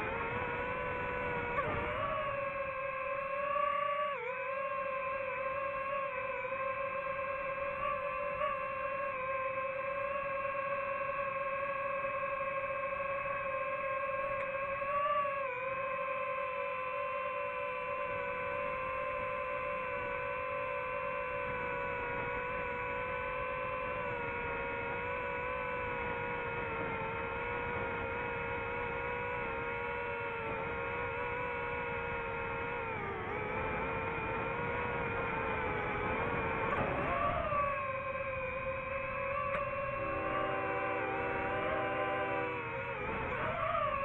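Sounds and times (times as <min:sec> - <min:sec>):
drone propellers whining: 0:00.0 - 0:44.0.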